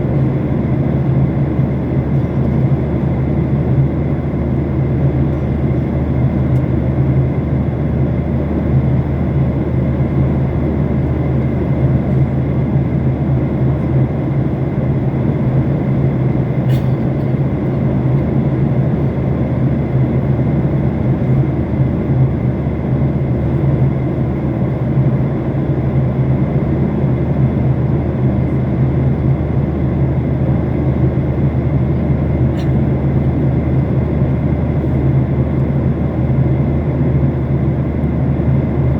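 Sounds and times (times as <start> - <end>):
airliner cabin engine drone: 0.0 - 38.9.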